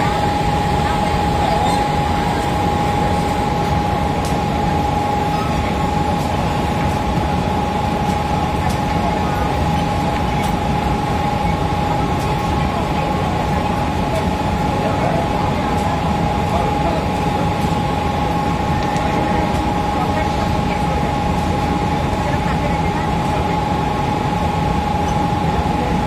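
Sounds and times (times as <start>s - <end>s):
train equipment humming: 0.0s - 26.0s.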